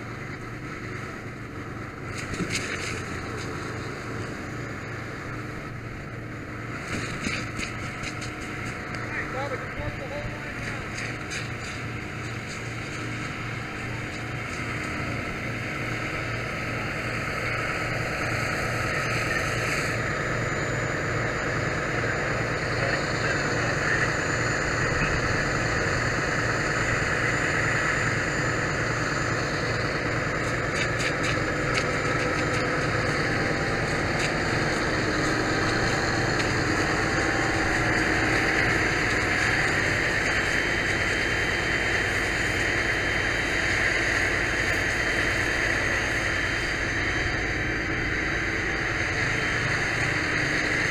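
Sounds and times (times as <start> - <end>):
pump engine rumble: 0.0 - 50.9.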